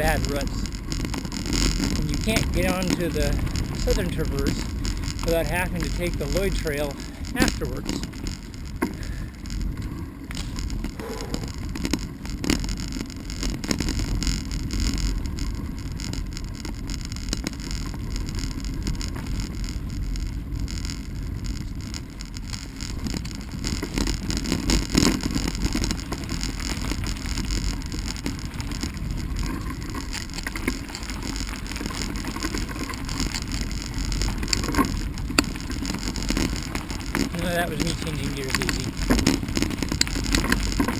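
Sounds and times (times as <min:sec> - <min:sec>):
bicycle tyres rumbling on dirt: 0:00.0 - 0:40.9
bike knocks and rattles: 0:00.0 - 0:40.9.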